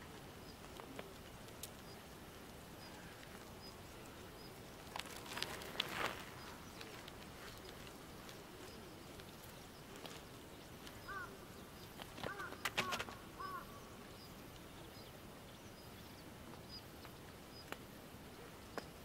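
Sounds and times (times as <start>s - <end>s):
birds chirping: 0.2s - 19.0s.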